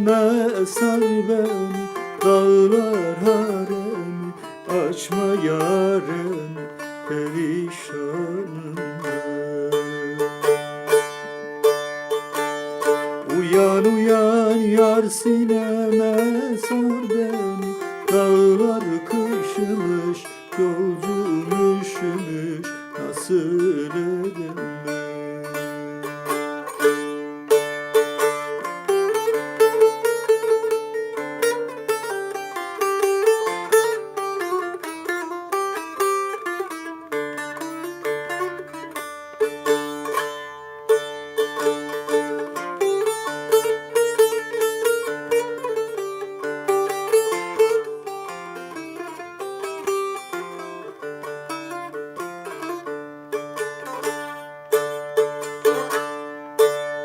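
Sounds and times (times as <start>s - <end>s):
plucked string instrument melody: 0.0s - 57.0s.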